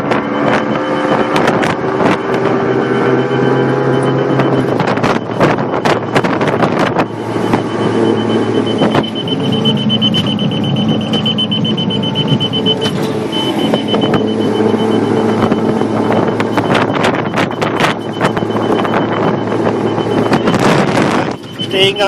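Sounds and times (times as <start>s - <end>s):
high electronic alarm beeping: 0.0s - 22.0s
outboard motor running: 0.0s - 22.0s.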